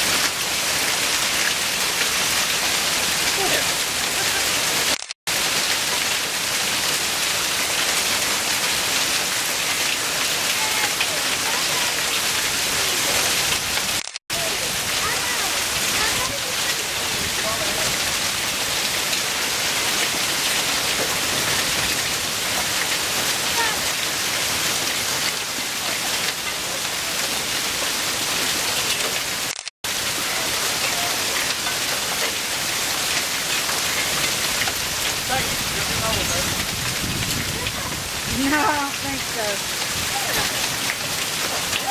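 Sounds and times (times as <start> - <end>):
heavy hail and rain: 0.0 - 41.9.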